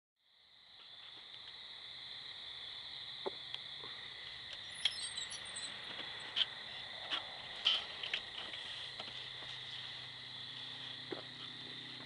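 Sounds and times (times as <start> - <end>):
crickets chirring: 0.2 - 12.0.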